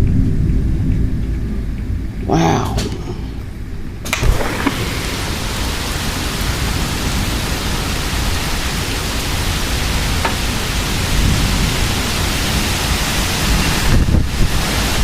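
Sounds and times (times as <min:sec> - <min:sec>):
heavy wind-driven rain: 0:00.0 - 0:15.0
strong wind gusts: 0:00.0 - 0:15.0.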